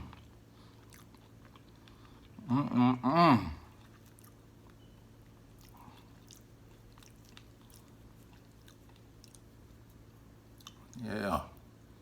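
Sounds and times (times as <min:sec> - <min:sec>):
person chewing: 0:00.0 - 0:02.5, 0:03.6 - 0:11.0
low room hum: 0:00.0 - 0:12.0.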